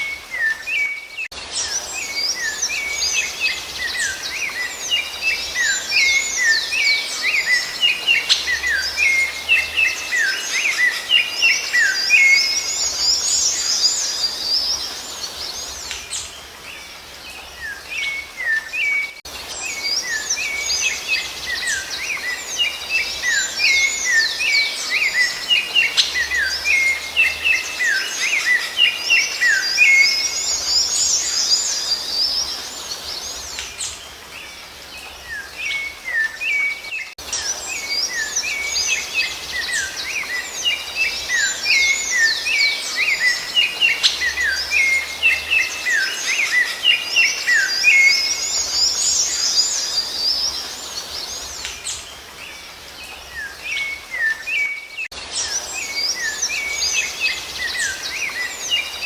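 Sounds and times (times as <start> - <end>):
faint outdoor background hiss: 0.0 - 59.0
thrush singing whistled notes: 0.0 - 59.0.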